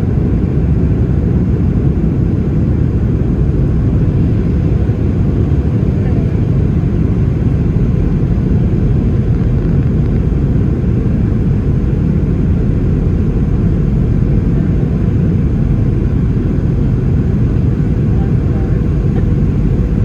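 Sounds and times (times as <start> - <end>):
airplane cabin engine noise: 0.0 - 20.0.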